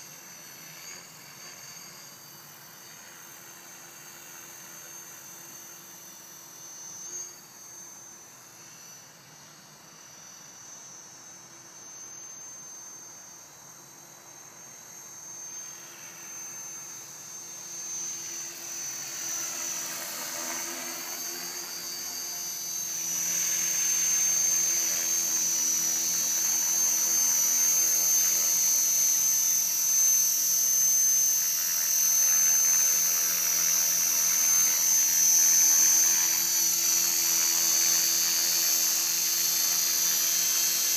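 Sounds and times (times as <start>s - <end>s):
rc helicopter motor and rotor whine: 0.0s - 40.9s.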